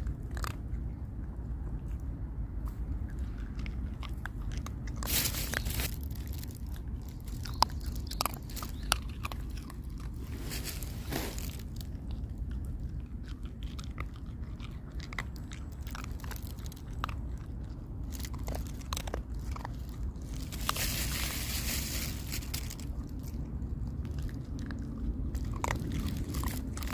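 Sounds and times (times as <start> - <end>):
dog chewing and crunching food: 0.0 - 26.9
steady low rumble: 0.0 - 26.9.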